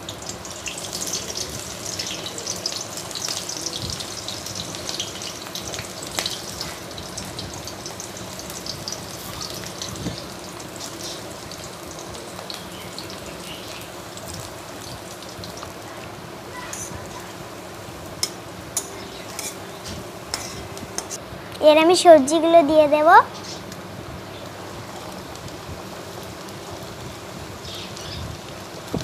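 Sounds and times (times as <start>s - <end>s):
onion sizzling in hot oil: 0.0s - 29.0s.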